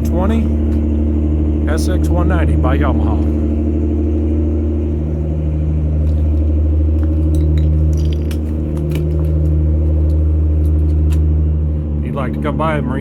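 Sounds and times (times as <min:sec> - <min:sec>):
idling engine hum: 0:00.0 - 0:13.0.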